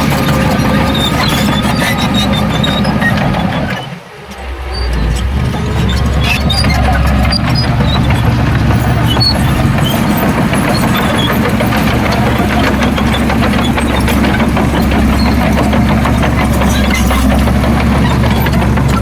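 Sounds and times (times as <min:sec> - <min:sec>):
heavy diesel engine droning: 0:00.0 - 0:19.0.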